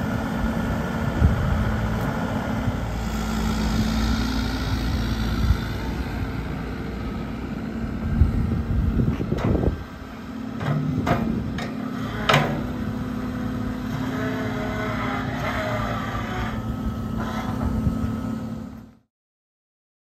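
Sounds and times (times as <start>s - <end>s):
excavator diesel engine running: 0.0s - 19.0s
hydraulic whine: 0.0s - 19.0s.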